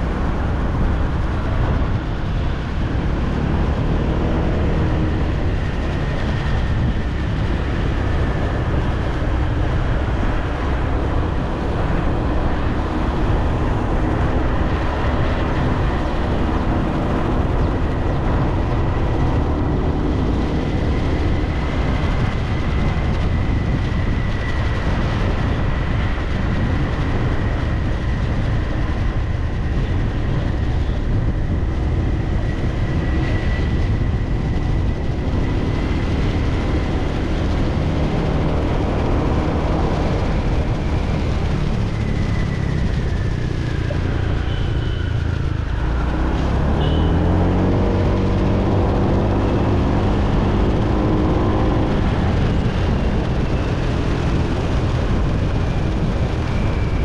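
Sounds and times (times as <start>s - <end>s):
scooter engine rumble: 0.0s - 57.0s.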